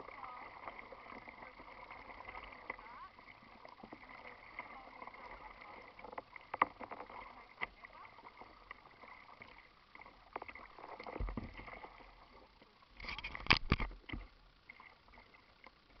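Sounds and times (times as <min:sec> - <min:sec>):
small waves lapping against kayak: 0:00.0 - 0:16.0.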